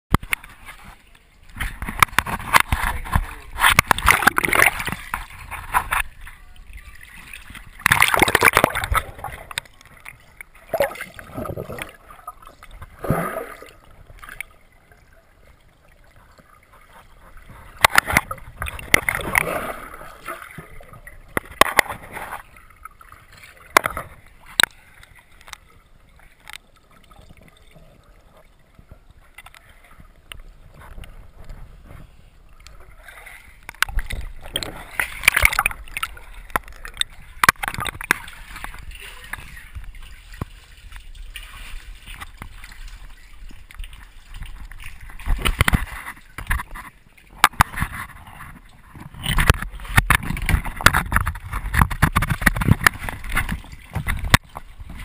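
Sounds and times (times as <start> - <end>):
water sloshing and gurgling: 0.1 - 55.0.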